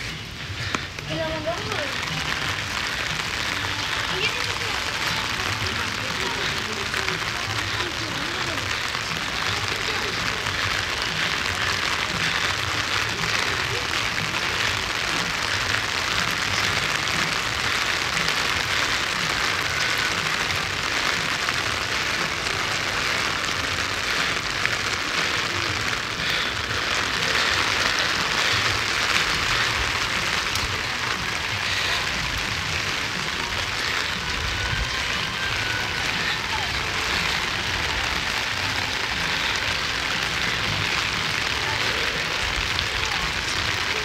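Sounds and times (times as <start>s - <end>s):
rain falling: 0.0s - 44.0s.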